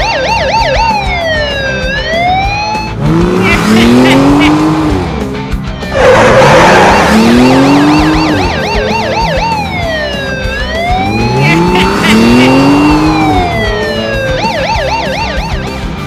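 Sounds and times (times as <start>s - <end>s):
police siren yelp and wail: 0.0s - 4.4s, 5.9s - 15.9s
engine revving: 1.7s - 16.0s.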